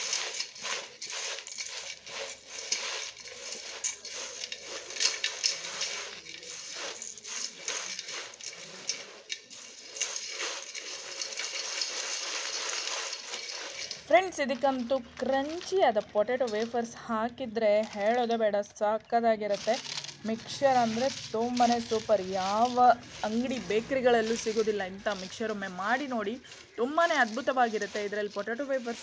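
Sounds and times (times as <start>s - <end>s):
snack mix rustling in steel bowl: 0.0s - 18.7s, 19.4s - 29.0s.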